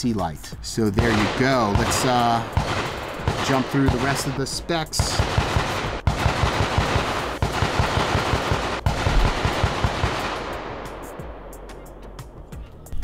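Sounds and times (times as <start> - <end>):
automatic gunfire: 1.0 - 11.9.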